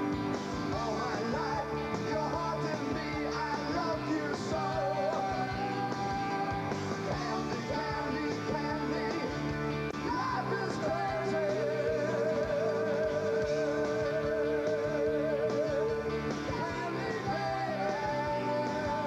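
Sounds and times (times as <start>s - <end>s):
man and woman singing rock duet: 0.0s - 19.0s
rock band with electric guitar: 0.0s - 19.0s.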